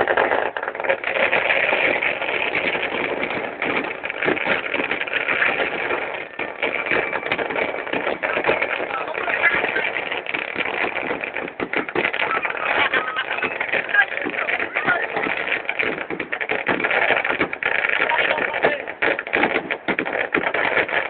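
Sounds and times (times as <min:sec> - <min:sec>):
crowd chatter and shouting: 0:00.0 - 0:19.5
fireworks crackling: 0:00.0 - 0:21.0.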